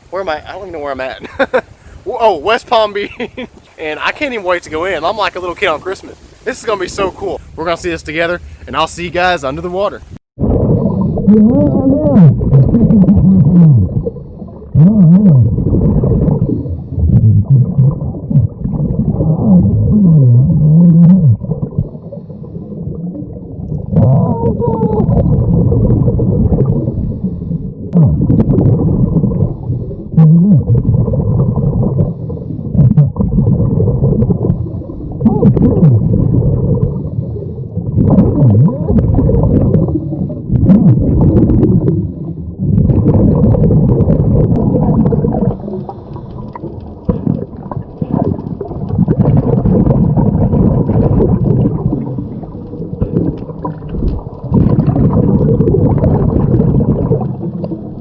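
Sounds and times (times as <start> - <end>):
scuba exhaust bubbles gurgling: 10.3 - 58.0.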